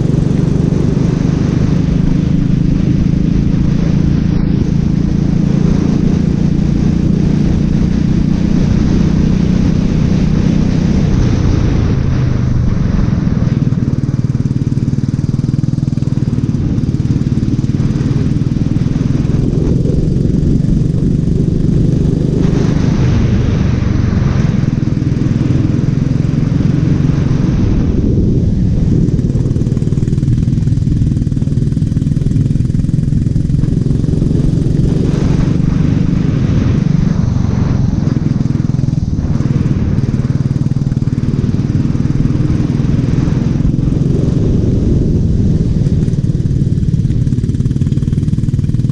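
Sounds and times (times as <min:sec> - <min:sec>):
kart engine running hard: 0:00.0 - 0:48.9
steady rushing noise: 0:00.0 - 0:48.9.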